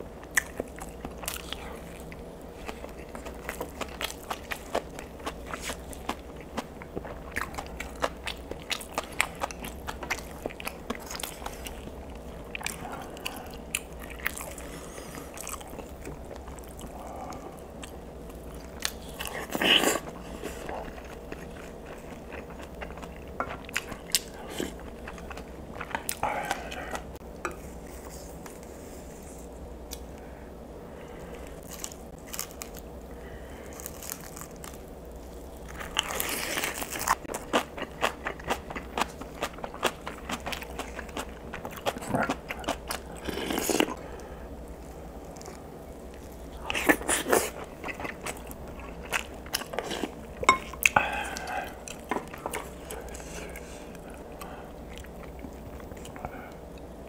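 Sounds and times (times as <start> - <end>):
man chewing food: 0.0 - 30.3, 31.0 - 57.0.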